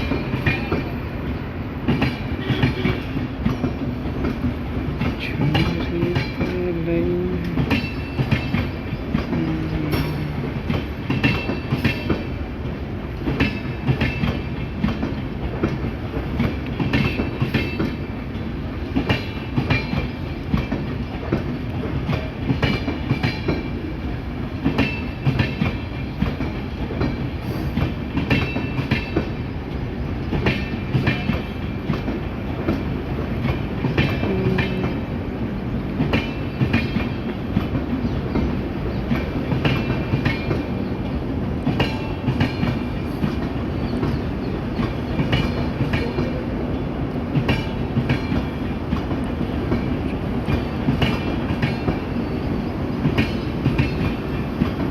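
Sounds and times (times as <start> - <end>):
train wheels rumbling on rails: 0.0 - 54.9
wheels clacking over rail joints: 0.0 - 54.9.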